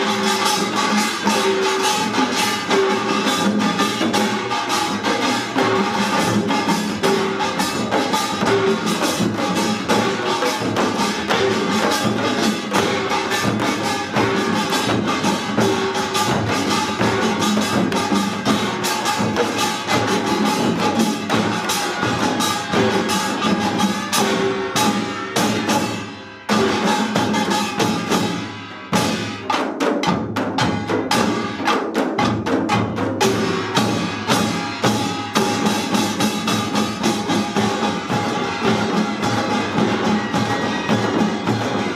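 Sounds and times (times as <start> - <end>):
hourglass drums beating: 0.0 - 29.5, 30.5 - 41.9
metal gongs clanging: 0.0 - 29.6, 32.8 - 41.9
barrel drums beating: 0.0 - 41.9.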